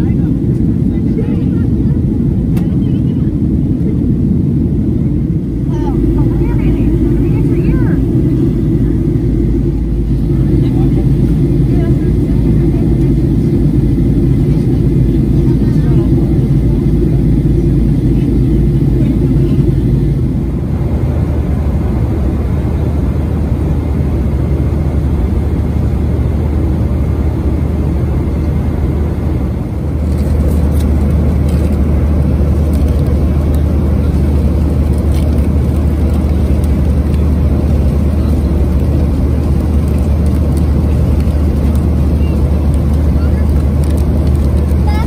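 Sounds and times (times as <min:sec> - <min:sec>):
jet airliner cabin rumble: 0:00.0 - 0:45.0.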